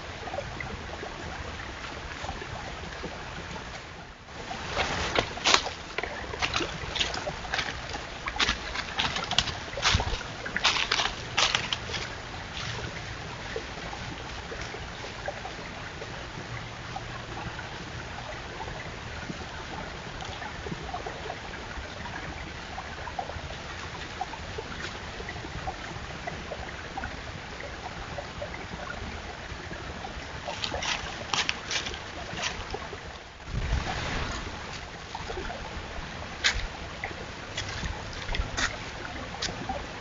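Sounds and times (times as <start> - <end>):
outdoor background hiss: 0.0 - 40.0.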